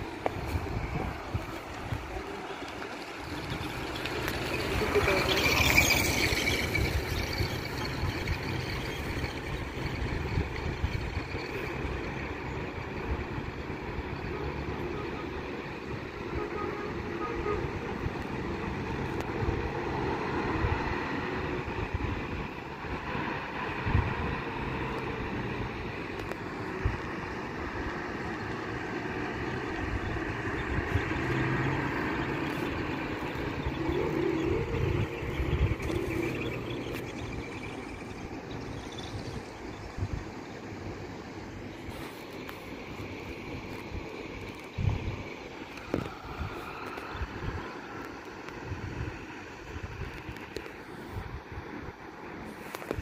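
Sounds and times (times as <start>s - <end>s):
road noise: 0.0s - 53.0s
vehicle engines rumbling: 0.0s - 53.0s.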